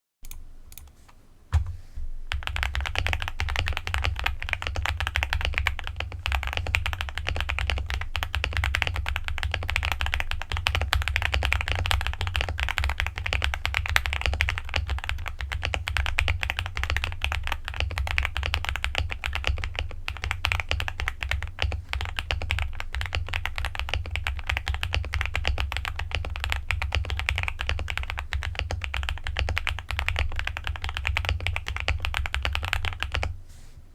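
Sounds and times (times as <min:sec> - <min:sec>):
low steady hum: 0:00.2 - 0:33.9
fast typing on mechanical keyboard: 0:02.3 - 0:33.3.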